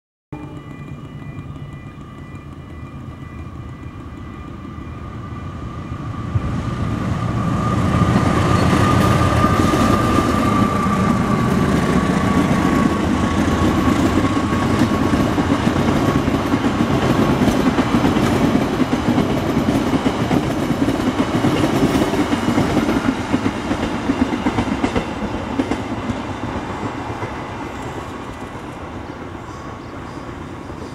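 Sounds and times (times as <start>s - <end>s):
diesel locomotive passing: 0.3s - 30.9s.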